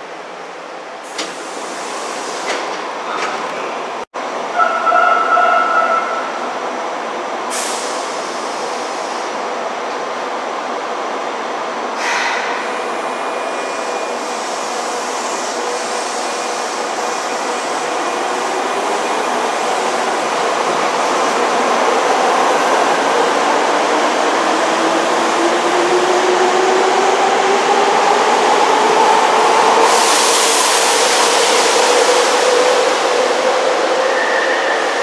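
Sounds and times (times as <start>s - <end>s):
train humming at platform: 0.0s - 35.0s.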